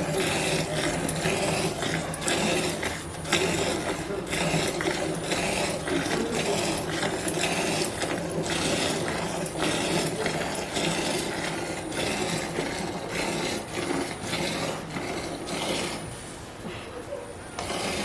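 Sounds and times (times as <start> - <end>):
milk squirting from hand milking: 0.0 - 16.5, 17.5 - 18.0.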